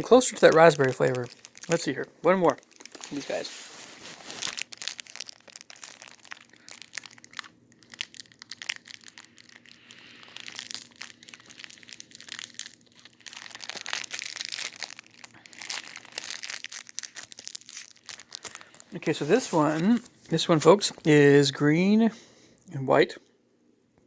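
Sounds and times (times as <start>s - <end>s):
plastic wrapper crinkling: 0.0s - 21.6s.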